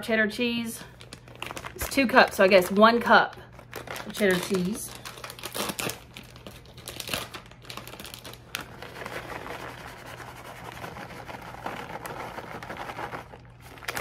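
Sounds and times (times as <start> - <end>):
plastic bag rustling: 0.9 - 14.0.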